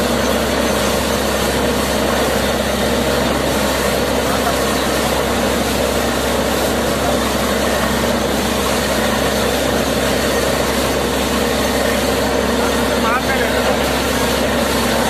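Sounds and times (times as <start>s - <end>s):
drilling rig engine running: 0.0s - 15.0s
water gushing and splashing: 0.0s - 15.0s.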